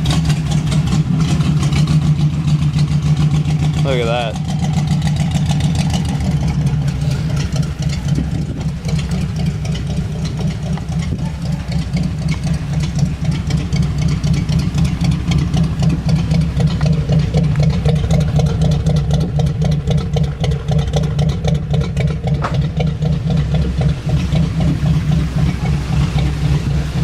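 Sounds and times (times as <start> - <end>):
light engine ticking: 0.0 - 27.0
van engine running steadily: 0.0 - 27.0.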